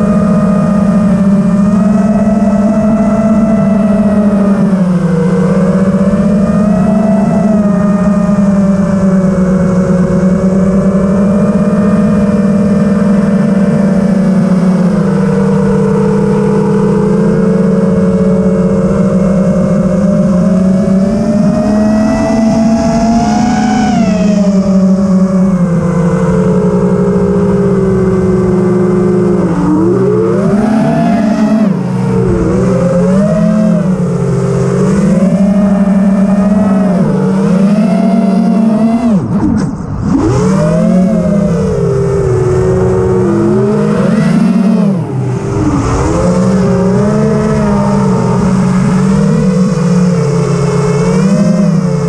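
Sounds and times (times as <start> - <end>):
quadcopter propellers buzzing: 0.0 - 52.0.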